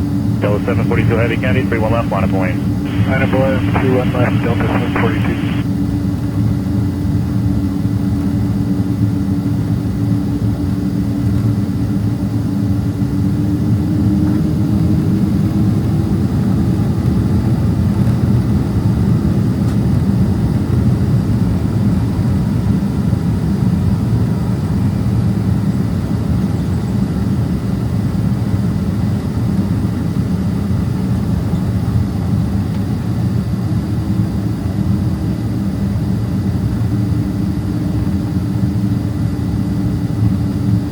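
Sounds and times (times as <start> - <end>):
jet engines humming in cabin: 0.0 - 40.9.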